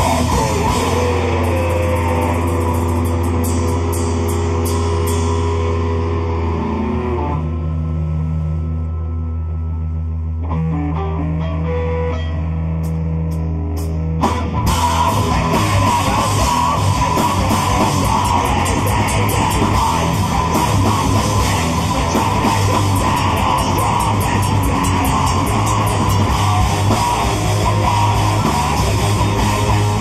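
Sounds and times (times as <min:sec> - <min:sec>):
band playing distorted guitars and drums: 0:00.0 - 0:30.0
low drone: 0:00.0 - 0:30.0.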